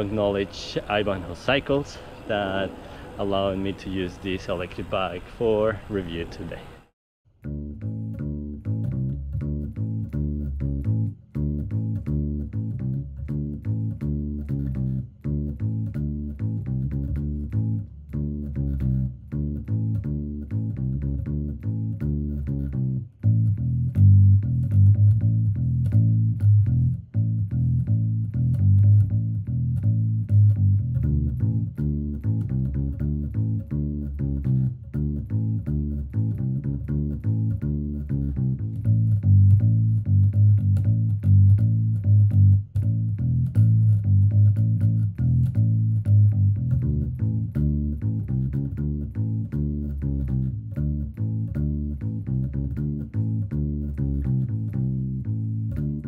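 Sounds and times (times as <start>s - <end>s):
music with low plucked notes: 7.3s - 56.0s.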